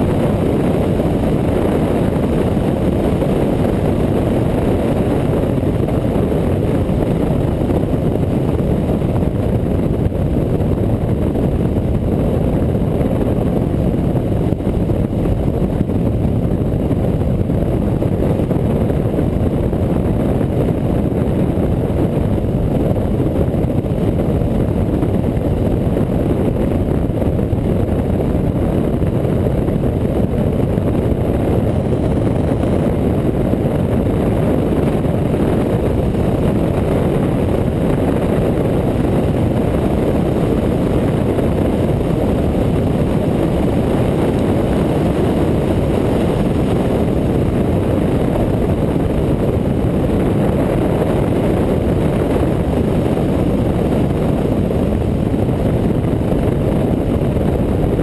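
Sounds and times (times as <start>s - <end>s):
motorcycle engine and wind rumble: 0.0s - 58.0s.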